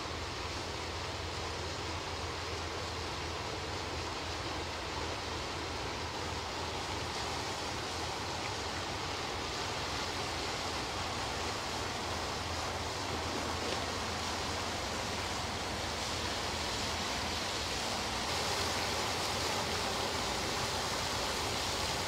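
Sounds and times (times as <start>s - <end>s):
low steady hum: 0.0s - 22.0s
water pouring and splashing: 0.0s - 22.0s.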